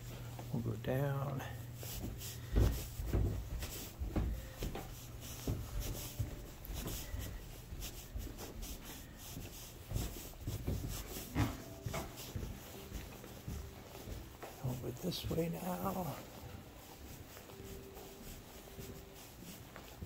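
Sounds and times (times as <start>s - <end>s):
footsteps on carpeted stairs: 0.0s - 20.0s.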